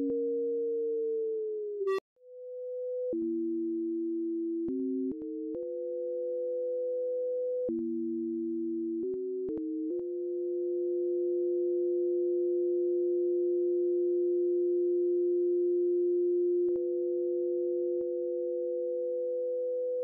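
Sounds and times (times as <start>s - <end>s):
sine tones: 0.0s - 20.0s.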